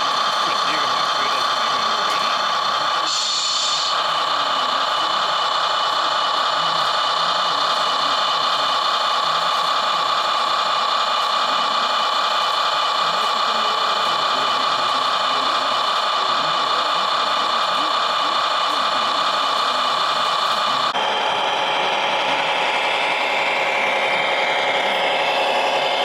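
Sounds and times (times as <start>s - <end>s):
model machines whirring: 0.0s - 26.0s.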